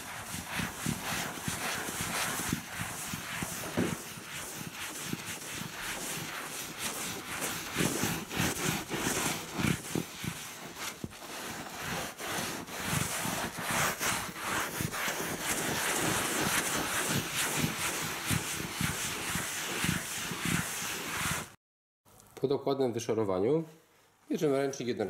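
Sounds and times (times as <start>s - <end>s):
sponge scrubbing leather: 0.0s - 21.6s.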